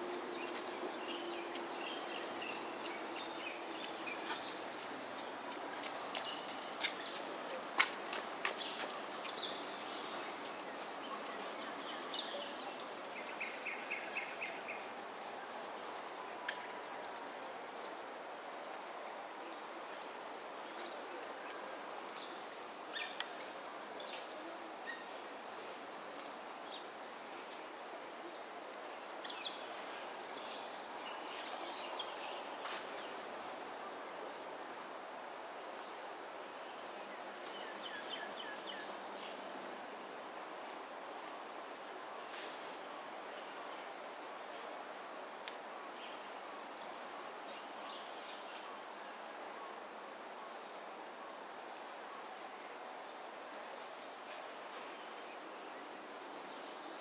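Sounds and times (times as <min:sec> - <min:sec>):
background noise: 0:00.0 - 0:57.0
insect chorus: 0:00.0 - 0:57.0.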